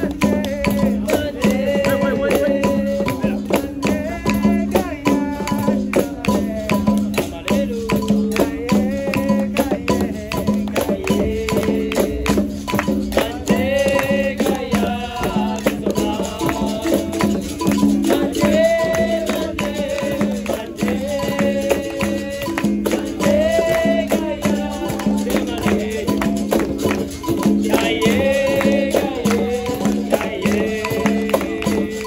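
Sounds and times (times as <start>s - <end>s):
hand percussion and rattle: 0.0s - 32.0s
voices singing: 0.0s - 32.0s.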